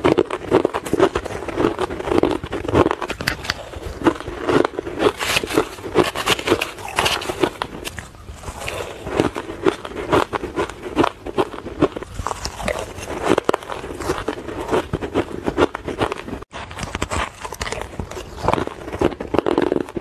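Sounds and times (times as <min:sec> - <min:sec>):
chewing crunchy ice: 0:00.0 - 0:20.0.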